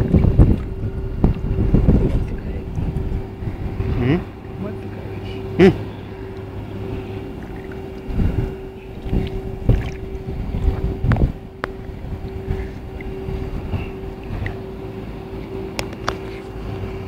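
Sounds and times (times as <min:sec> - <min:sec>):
wind on microphone: 0:00.0 - 0:04.6, 0:05.4 - 0:15.4
low hum: 0:00.0 - 0:17.0
water sloshing and splashing: 0:00.0 - 0:17.0.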